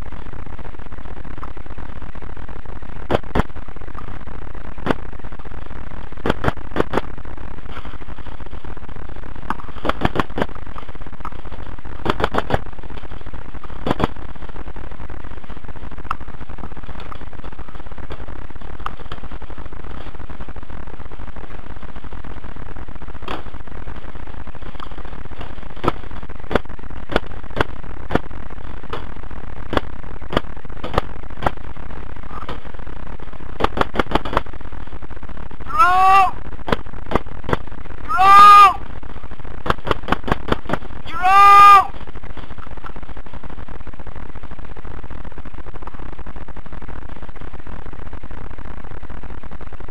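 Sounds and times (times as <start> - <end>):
steady electrical buzz: 0.0 - 49.9.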